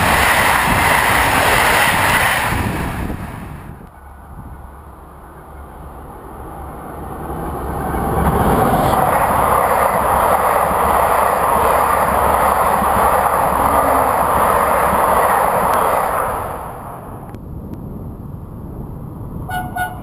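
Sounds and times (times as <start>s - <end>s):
passenger train passing: 0.0s - 20.0s.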